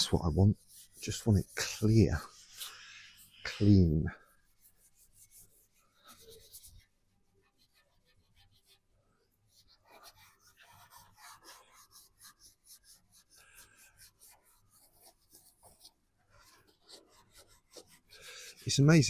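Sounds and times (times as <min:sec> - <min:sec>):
hand-sanding strokes on steel: 0:00.0 - 0:06.8, 0:09.6 - 0:19.0.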